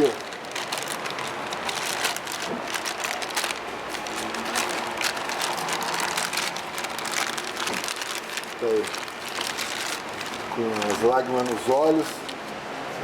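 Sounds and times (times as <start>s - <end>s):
packaging rustling and clicking: 0.0s - 12.5s.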